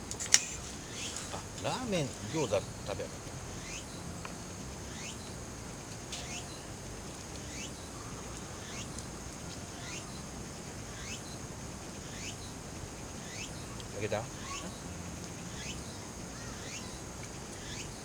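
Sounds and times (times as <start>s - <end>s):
high-pitched insect drone: 0.3s - 18.0s.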